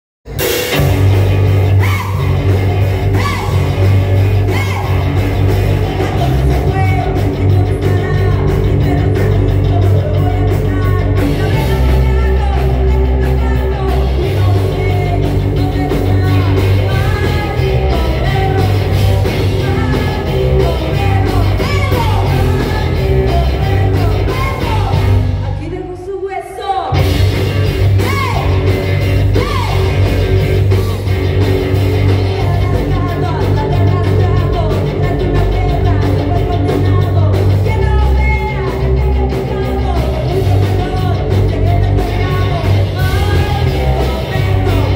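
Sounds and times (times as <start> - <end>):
rock band playing: 0.2 - 44.9
woman singing and yelling: 1.6 - 27.0, 28.0 - 28.7, 29.3 - 30.0, 32.2 - 44.9.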